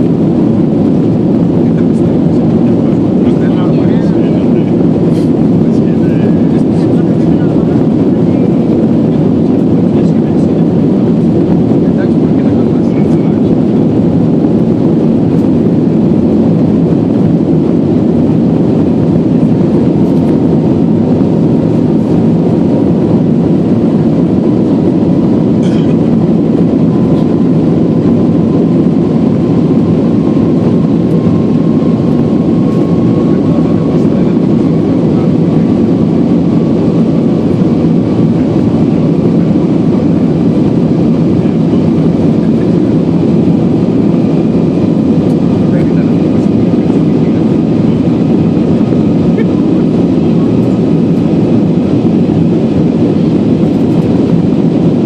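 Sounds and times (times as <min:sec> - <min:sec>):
airplane cabin roar: 0:00.0 - 0:55.0
faint rising whine: 0:00.0 - 0:55.0.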